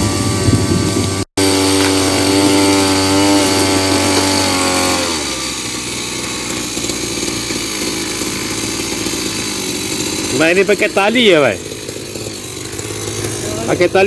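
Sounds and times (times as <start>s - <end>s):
brush cutter engine running: 0.0s - 14.0s.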